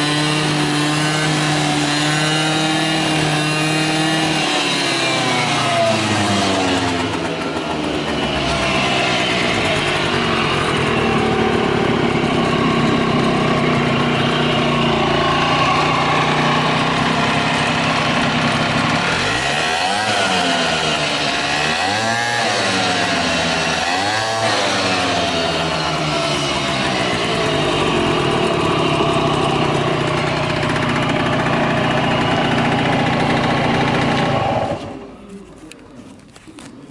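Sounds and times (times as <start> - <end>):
scooter engine idling and revving: 0.0 - 36.9.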